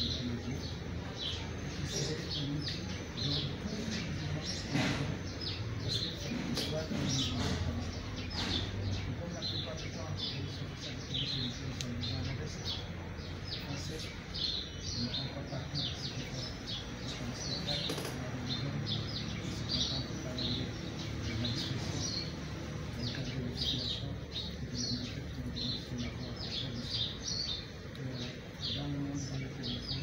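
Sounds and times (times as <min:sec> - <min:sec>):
low steady background noise: 0:00.0 - 0:30.0
small birds chirping: 0:00.0 - 0:30.0.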